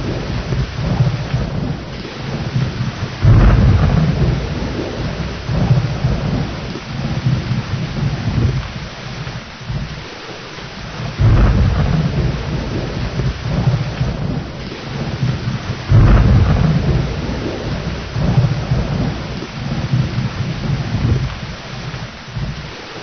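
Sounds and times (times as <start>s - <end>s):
rolling thunder: 0.0s - 23.0s
steady rain: 0.0s - 23.0s.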